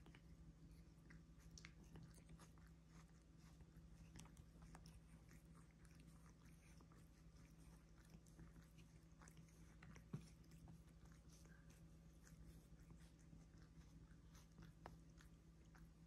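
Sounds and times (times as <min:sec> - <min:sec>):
cats licking fur: 0:00.0 - 0:16.0.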